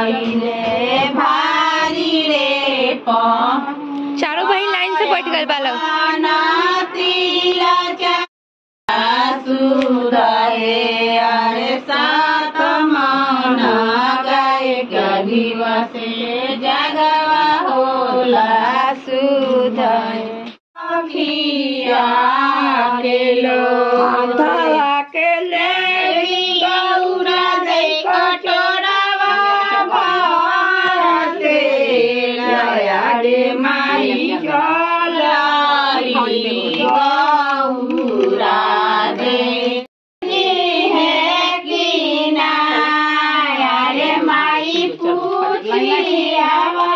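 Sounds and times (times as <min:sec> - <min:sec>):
women singing unaccompanied: 0:00.0 - 0:08.3, 0:08.9 - 0:46.9.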